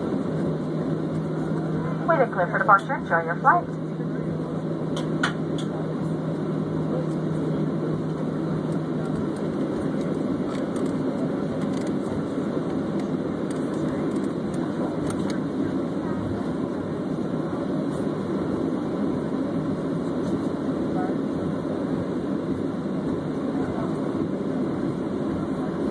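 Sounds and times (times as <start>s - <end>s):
jet engines rumbling in cabin: 0.0s - 25.9s.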